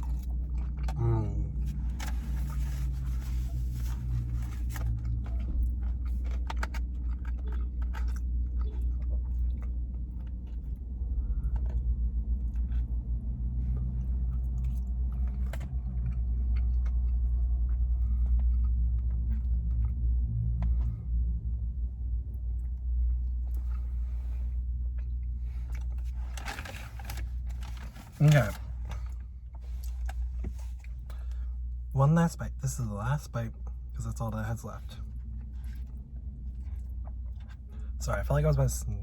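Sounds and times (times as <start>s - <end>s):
person chewing food: 0.0s - 21.3s, 22.1s - 31.9s, 35.0s - 38.0s
low car rumble: 0.0s - 39.0s.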